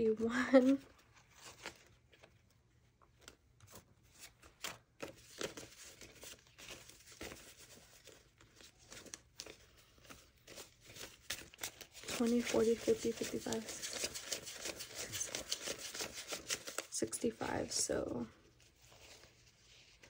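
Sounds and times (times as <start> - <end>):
paper banknotes rustling: 3.0 - 20.0.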